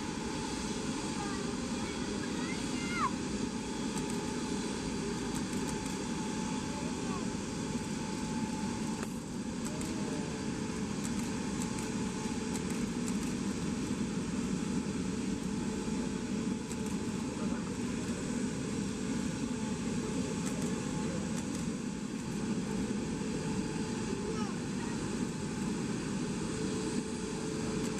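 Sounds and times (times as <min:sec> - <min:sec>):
aircraft engine drone: 0:00.0 - 0:27.9.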